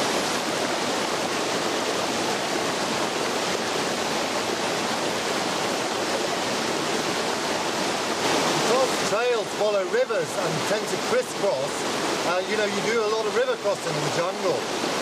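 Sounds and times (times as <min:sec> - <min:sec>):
stream rushing over boulders: 0:00.0 - 0:15.0.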